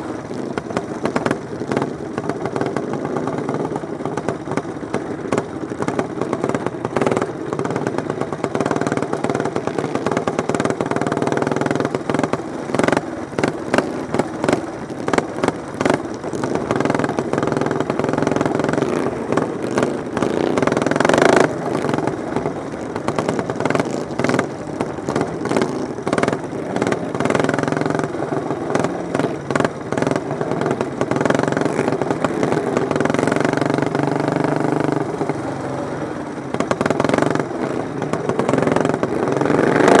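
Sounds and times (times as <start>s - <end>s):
engine crackles: 0.0s - 40.0s
racing lawn mower engines: 0.0s - 40.0s.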